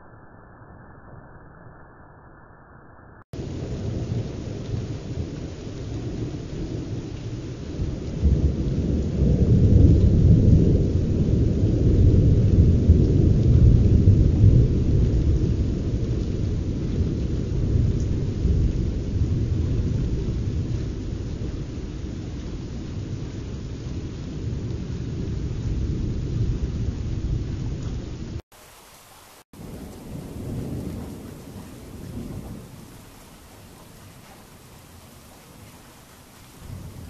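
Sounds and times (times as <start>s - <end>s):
thunder rumbling: 3.3s - 28.4s, 29.6s - 37.0s.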